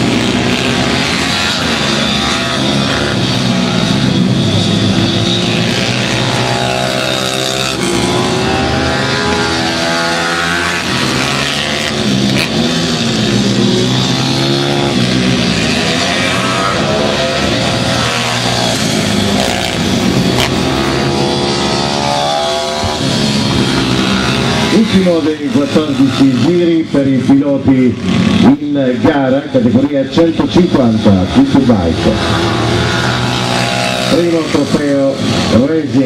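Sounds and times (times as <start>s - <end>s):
pit bike engines revving: 0.0s - 36.0s.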